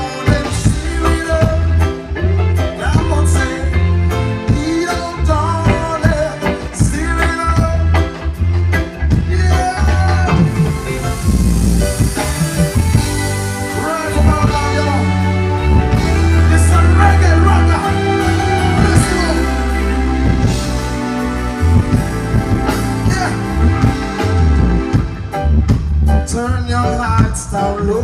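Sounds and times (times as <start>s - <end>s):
live band playing slow reggae: 0.0s - 28.0s.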